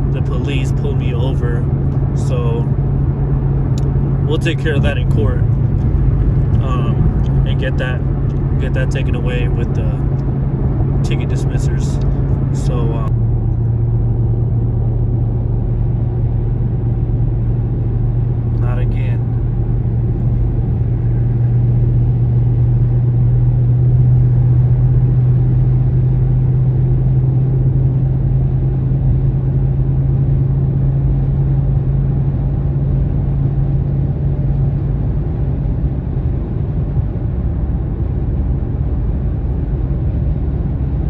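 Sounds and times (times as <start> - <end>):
low exhaust drone: 0.0 - 41.0
road rumble: 0.0 - 41.0.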